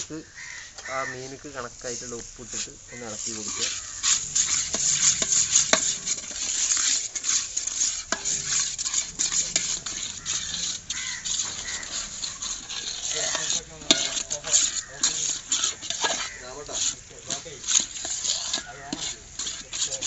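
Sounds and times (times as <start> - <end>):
food sizzling in pot: 0.0 - 20.0
spoon scraping and knocking pot: 2.4 - 20.0.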